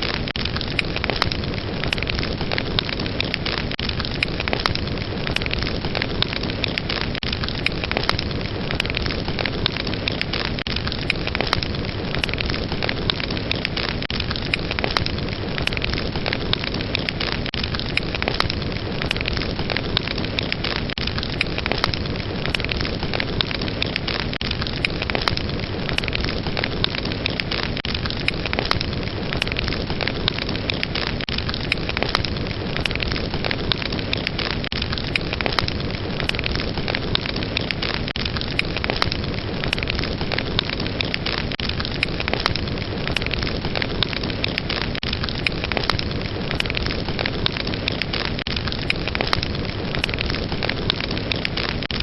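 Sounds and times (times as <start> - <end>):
fire crackling and popping: 0.0 - 52.0.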